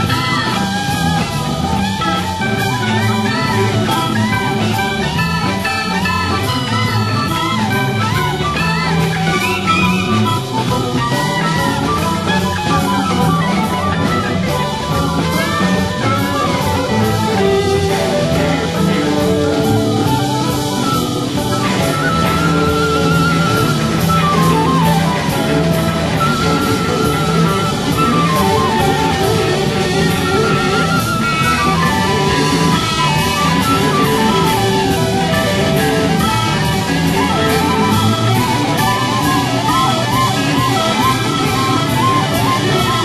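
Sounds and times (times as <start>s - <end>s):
drum kit and bass beat: 0.0s - 43.0s
keyboards: 0.0s - 43.0s
warbling high synth line: 0.0s - 43.0s.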